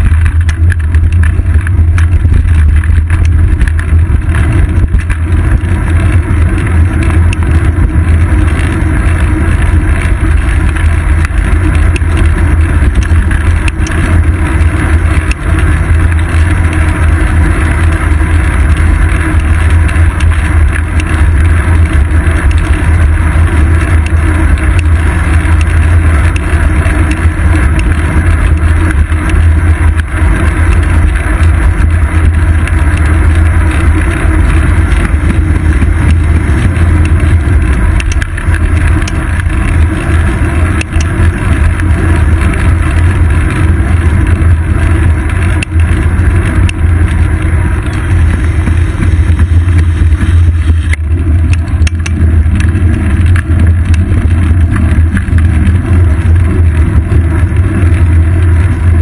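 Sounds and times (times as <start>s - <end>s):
bicycle road vibration: 0.0s - 59.0s
wind rumble: 0.0s - 59.0s.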